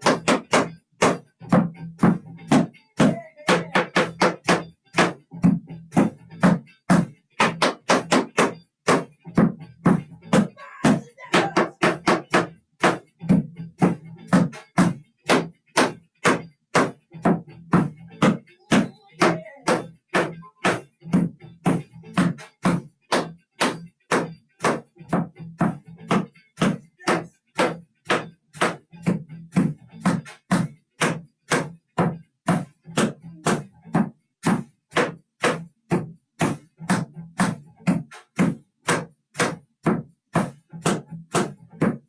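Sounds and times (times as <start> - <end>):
tap shoes striking wooden board: 0.0 - 5.2, 5.9 - 42.0.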